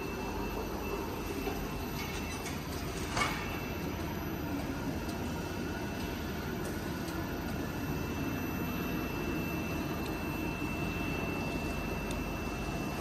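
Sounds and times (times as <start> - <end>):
embossing machine humming: 0.0 - 13.0
faint high whine: 0.0 - 13.0.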